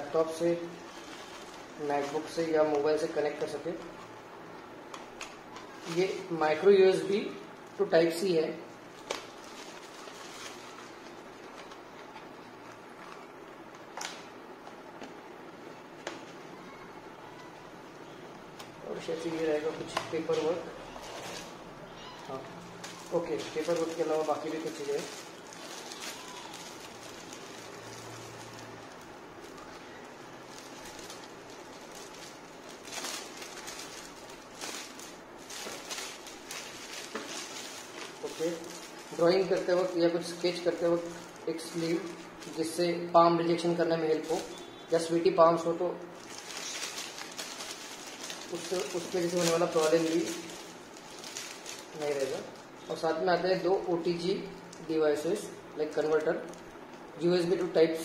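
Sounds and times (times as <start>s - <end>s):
plastic bag crinkling: 0.0s - 14.9s, 17.3s - 58.0s
packaging rustling: 0.0s - 16.7s, 17.4s - 57.9s.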